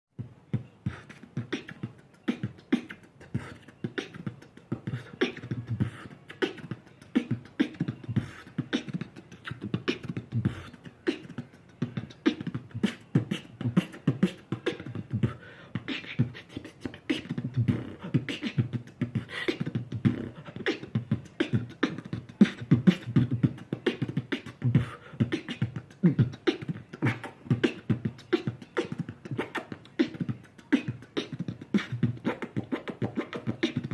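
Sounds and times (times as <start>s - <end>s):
person beatboxing: 0.2s - 33.9s.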